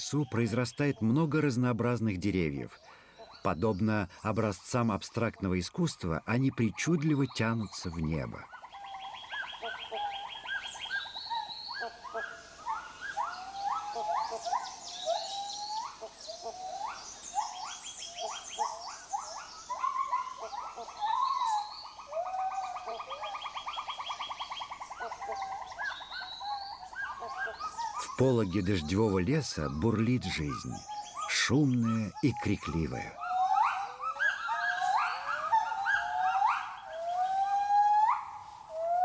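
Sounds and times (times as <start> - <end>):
animal chirps: 7.0 - 39.0.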